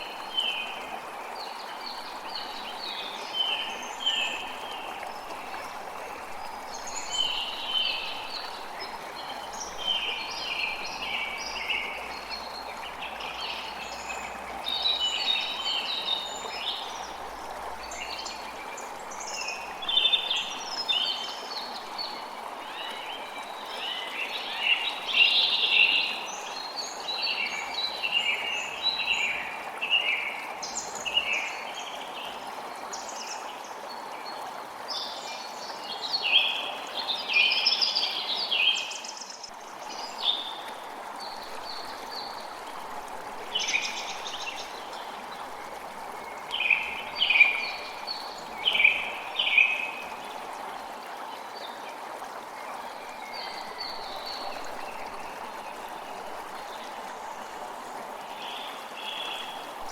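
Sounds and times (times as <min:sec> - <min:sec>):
creek flowing: 0:00.0 - 0:59.9.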